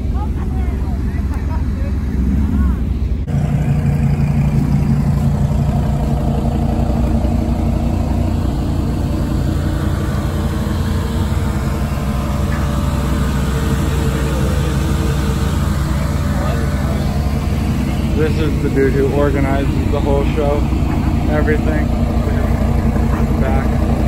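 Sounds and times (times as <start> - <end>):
car engine running steadily: 0.0 - 24.0.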